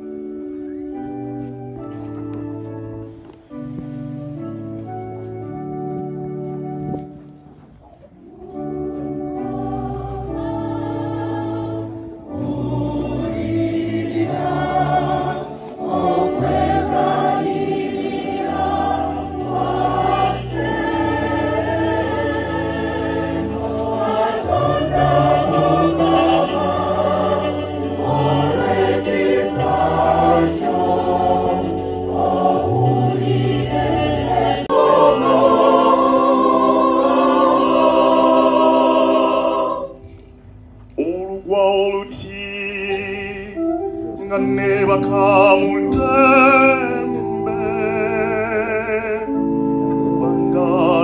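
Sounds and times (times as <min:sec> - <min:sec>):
choir singing a hymn: 0:08.2 - 0:40.3, 0:41.5 - 0:51.0.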